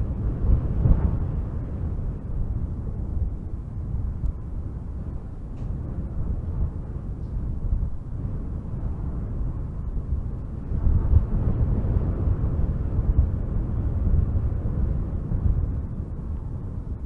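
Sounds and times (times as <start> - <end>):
strong wind gusting through trees: 0.0 - 17.0.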